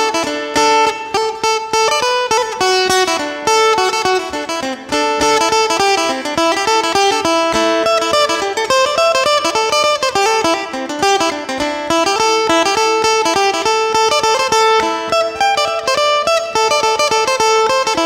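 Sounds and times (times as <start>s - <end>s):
plucked lute melody with drone: 0.0s - 18.0s.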